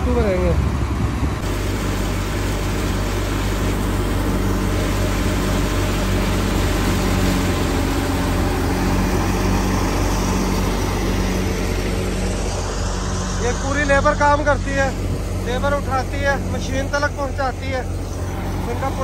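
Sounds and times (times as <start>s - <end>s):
threshing drum churning: 0.0s - 19.0s
tractor engine drone: 0.0s - 19.0s.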